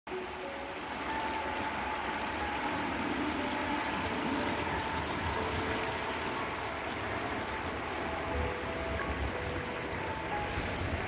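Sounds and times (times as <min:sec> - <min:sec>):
rushing flowing water: 0:00.1 - 0:11.0
wind rumbling on microphone: 0:00.2 - 0:11.0.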